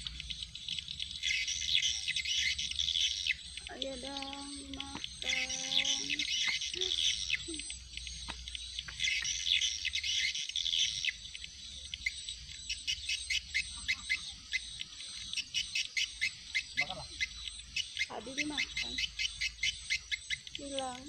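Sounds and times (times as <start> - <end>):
birds chirping and calling: 0.0 - 21.0
insects: 0.0 - 21.0
regular pulsing chirping: 0.0 - 21.0.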